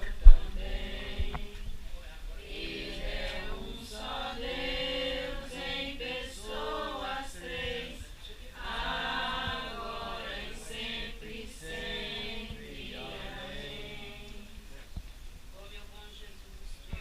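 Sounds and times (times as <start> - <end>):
group chanting in unison: 0.0 - 1.8, 2.4 - 14.8.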